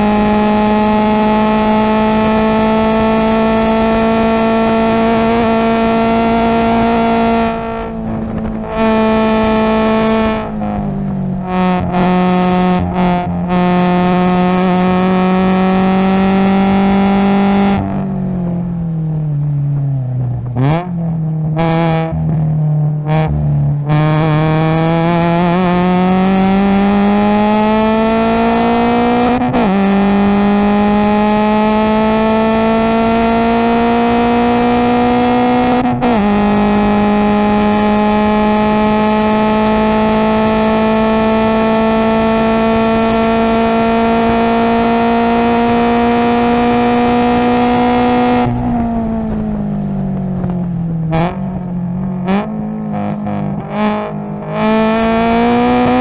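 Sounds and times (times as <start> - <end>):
race car engine at full throttle: 0.0 - 56.0.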